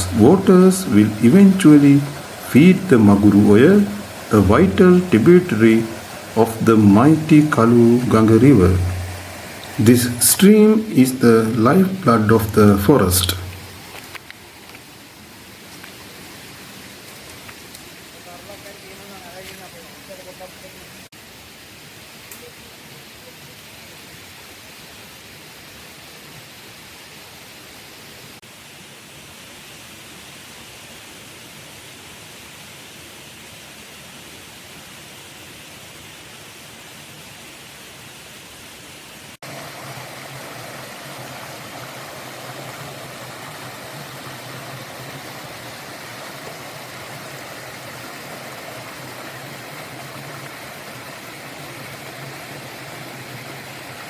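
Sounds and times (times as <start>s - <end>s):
forest stream rushing: 0.0s - 54.0s.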